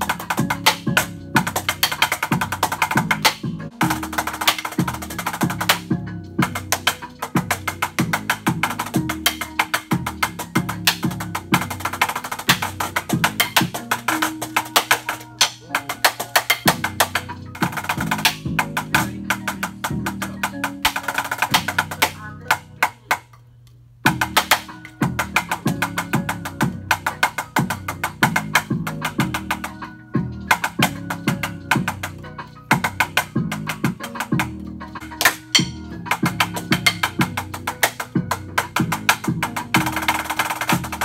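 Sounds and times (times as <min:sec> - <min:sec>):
drumstick strokes on practice pad: 0:00.0 - 0:23.3, 0:24.0 - 0:41.0
backing music with low notes: 0:00.0 - 0:41.0.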